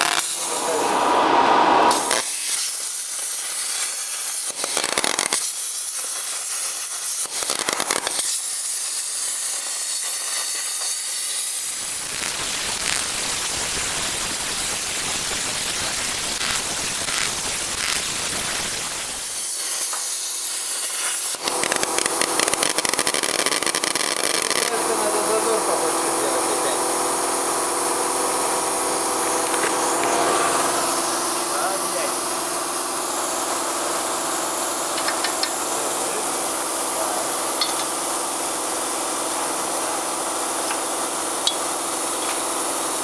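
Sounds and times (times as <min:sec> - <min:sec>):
plasma cutter torch hissing: 0:00.0 - 0:43.0.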